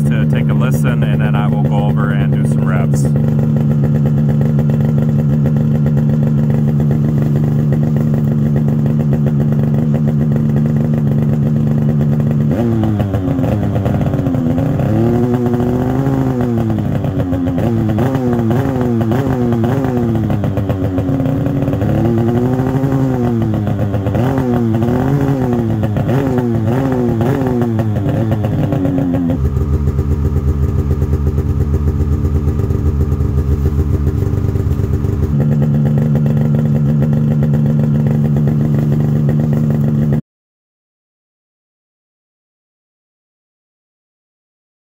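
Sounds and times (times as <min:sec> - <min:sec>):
snowmobile engine idling and revving: 0:00.0 - 0:40.2.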